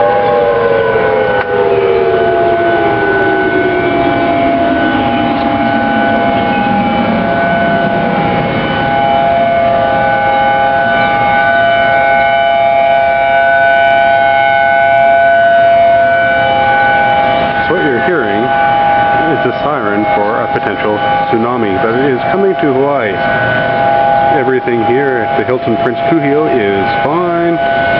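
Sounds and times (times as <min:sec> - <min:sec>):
warning sirens at different pitches: 0:00.0 - 0:27.9.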